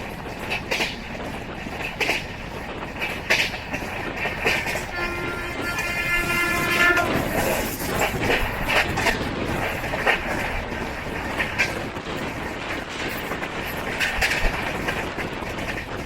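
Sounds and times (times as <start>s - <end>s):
train rumbling along track: 0.0s - 16.0s
wheels clacking: 0.0s - 16.0s.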